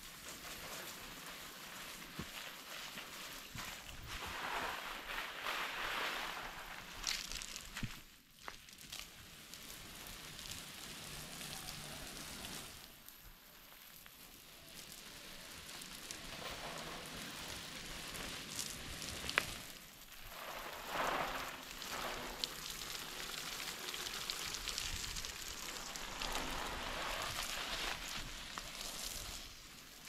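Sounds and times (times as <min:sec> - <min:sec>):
water spray pattering on leaves: 0:00.0 - 0:30.0.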